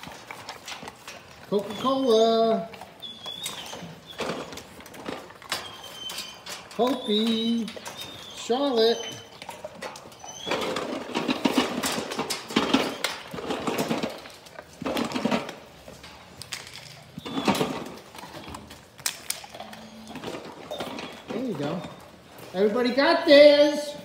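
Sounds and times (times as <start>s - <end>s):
puppies gnawing on chew bones: 0.0s - 22.5s.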